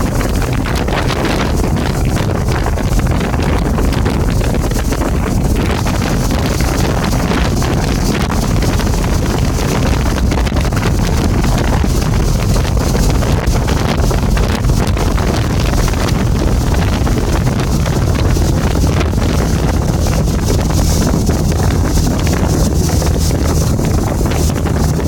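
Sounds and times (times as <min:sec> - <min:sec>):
motorboat engine drone: 0:00.0 - 0:25.0
rush of boat wake: 0:00.0 - 0:25.0
wind buffeting microphone: 0:00.0 - 0:25.0.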